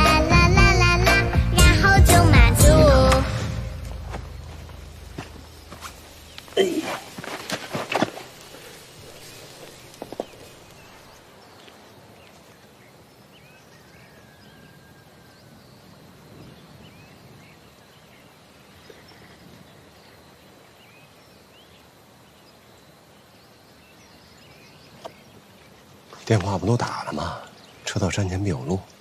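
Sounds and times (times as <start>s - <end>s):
low outdoor hiss: 0.0s - 29.0s.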